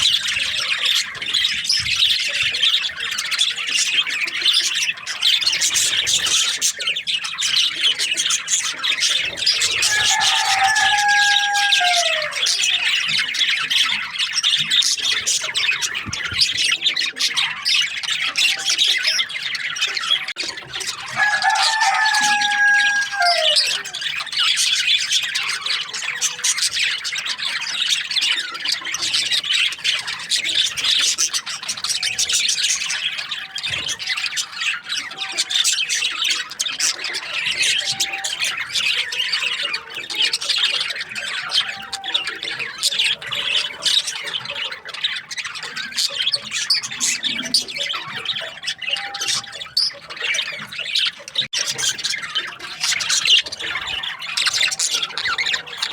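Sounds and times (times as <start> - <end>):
budgerigars chattering and chirping: 0.0 - 55.9.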